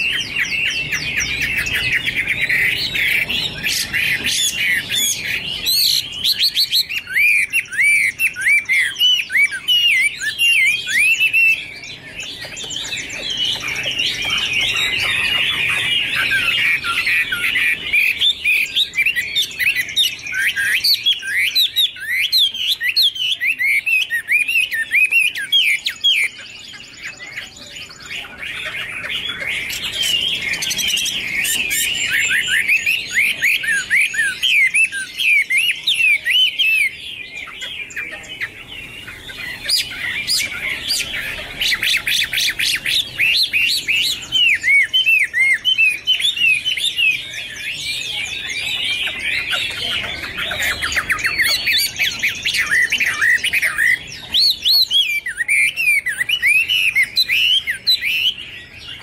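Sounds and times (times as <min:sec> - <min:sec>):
bird singing whistled phrases: 0:00.0 - 0:59.0.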